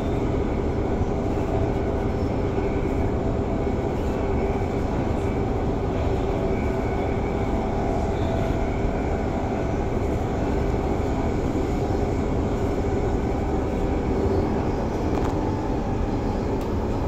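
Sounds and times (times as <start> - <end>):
electric train hum: 0.0 - 17.0
train wheels rumbling on rail: 0.0 - 17.0.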